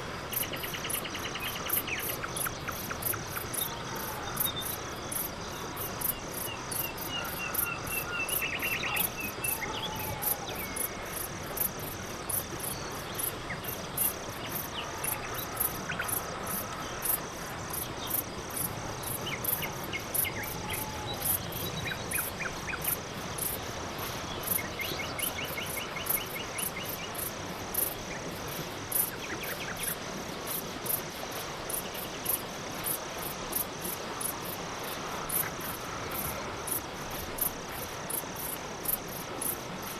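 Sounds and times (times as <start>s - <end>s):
crickets chirping: 0.0s - 39.9s
faint background chirps and trills: 0.0s - 39.9s.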